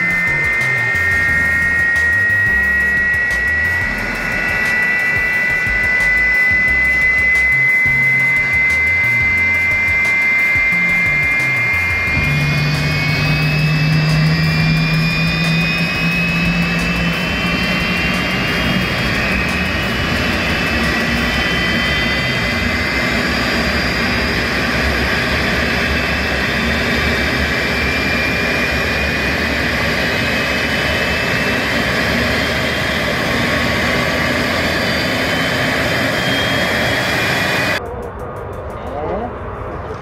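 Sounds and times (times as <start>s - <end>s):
high engine whine: 0.0s - 40.0s
jet engine roar: 0.0s - 40.0s
low hum: 0.0s - 40.0s.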